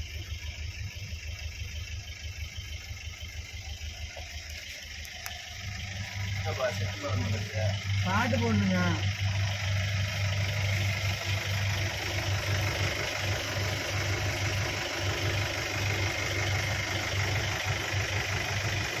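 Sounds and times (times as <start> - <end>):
minibus engine idling: 0.0 - 19.0.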